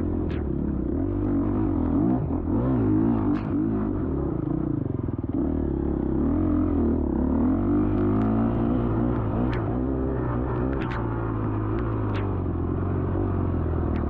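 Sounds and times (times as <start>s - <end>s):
dirt bike engine revving: 0.5s - 4.6s, 5.3s - 14.0s.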